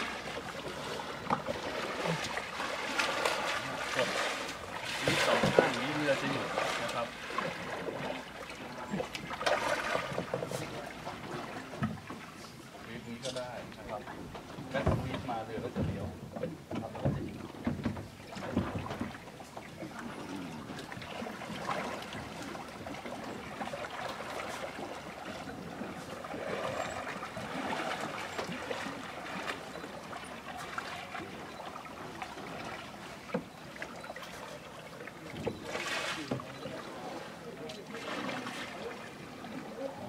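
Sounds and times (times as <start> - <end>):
paddle blades dipping and dripping: 0.0 - 40.0
water lapping: 0.0 - 40.0.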